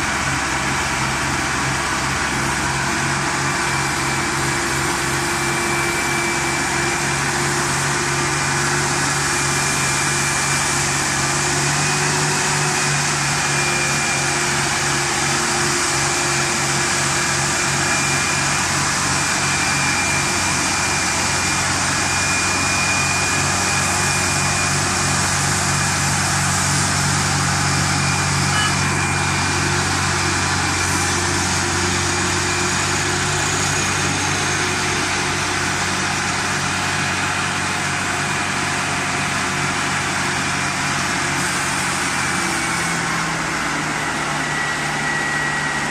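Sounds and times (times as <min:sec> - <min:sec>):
thin steady whine: 0:00.0 - 0:45.9
tractor diesel engine running: 0:00.0 - 0:45.9.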